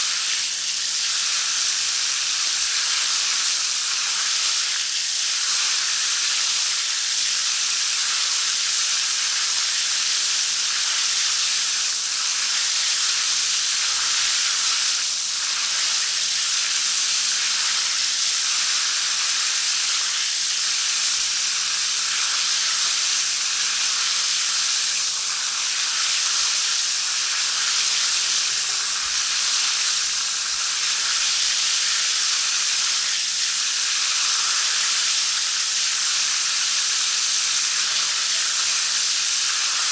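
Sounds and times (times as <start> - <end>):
shower spraying water: 0.0 - 39.9.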